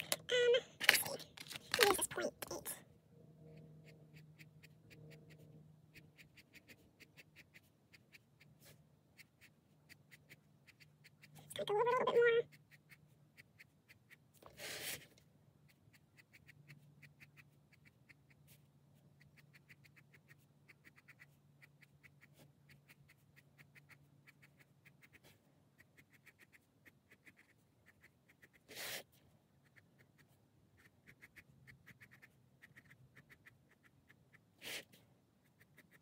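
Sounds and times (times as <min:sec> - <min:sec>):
pen scratching on paper: 0:03.5 - 0:36.0.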